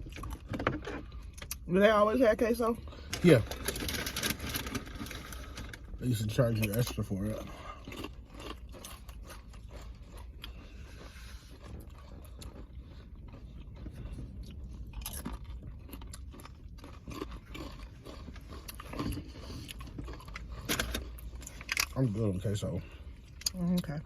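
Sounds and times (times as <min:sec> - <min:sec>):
chewing and crunching food: 0:00.0 - 0:24.0.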